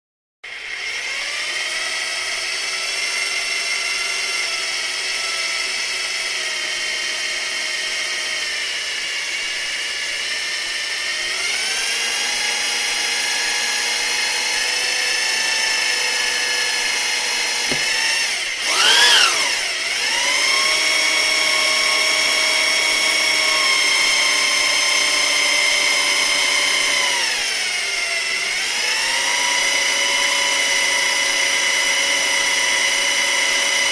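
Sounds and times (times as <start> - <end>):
electric drill whining: 0.5 - 33.9.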